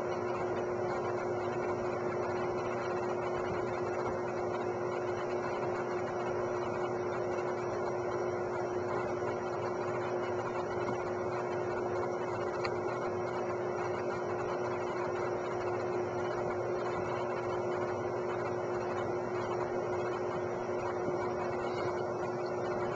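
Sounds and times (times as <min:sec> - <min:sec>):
machine hum: 0:00.0 - 0:22.9.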